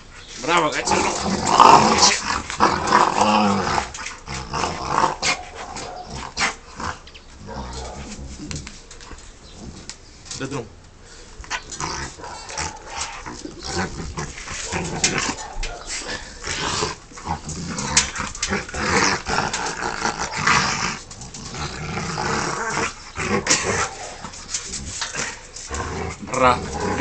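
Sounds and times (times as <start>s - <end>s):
dog growling: 0.7s - 8.7s, 11.5s - 27.0s.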